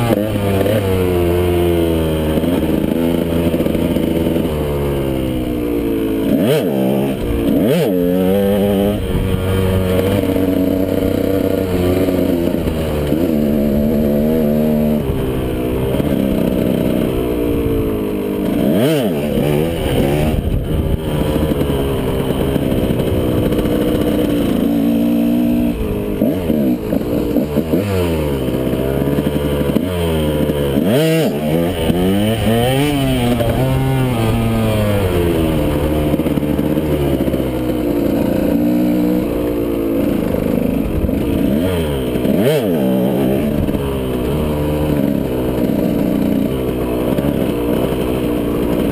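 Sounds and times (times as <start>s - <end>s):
two-stroke dirt bike engine revving: 0.0s - 48.9s.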